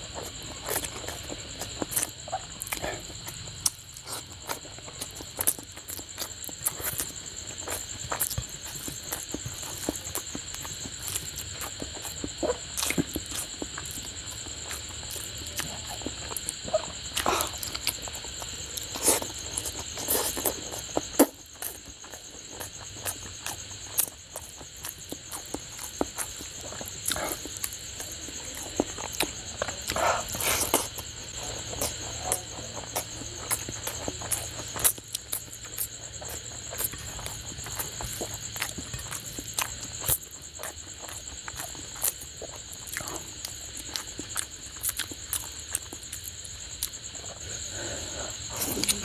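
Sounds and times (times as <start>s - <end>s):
chewing and lip smacks: 0.0s - 49.0s.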